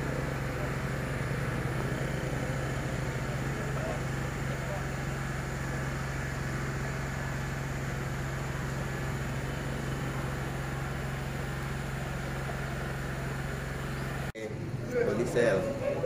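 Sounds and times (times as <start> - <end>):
steam locomotive hissing and humming: 0.0 - 14.3.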